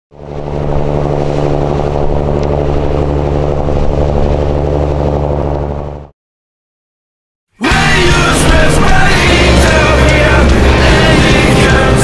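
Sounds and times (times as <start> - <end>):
boat engine droning: 0.1 - 6.1, 7.7 - 12.0.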